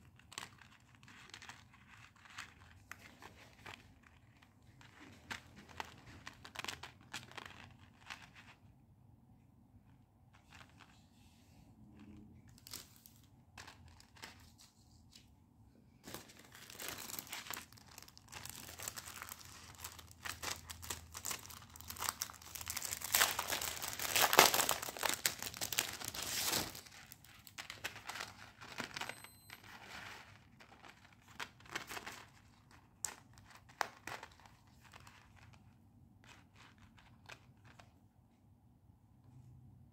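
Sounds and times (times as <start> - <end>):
packaging crinkling and tearing: 0.0 - 8.5, 12.5 - 14.5, 16.0 - 37.9.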